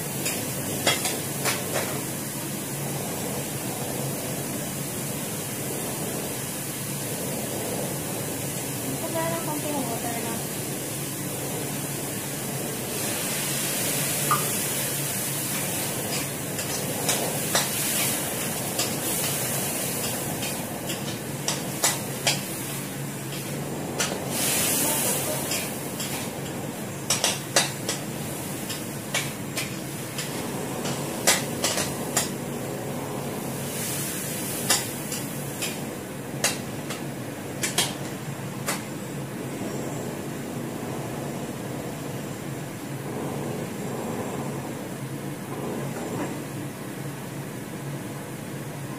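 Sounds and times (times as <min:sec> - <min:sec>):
hiss of cooking on gas stove: 0:00.0 - 0:48.9
steady hum: 0:00.0 - 0:48.9.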